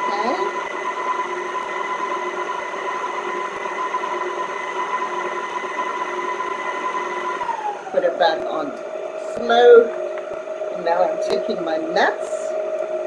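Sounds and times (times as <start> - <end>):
stand mixer motor whining: 0.0 - 13.0.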